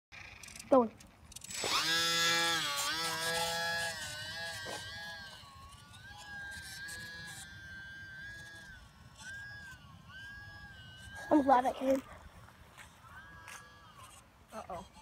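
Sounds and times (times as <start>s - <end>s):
model plane motor whining: 0.2s - 15.0s.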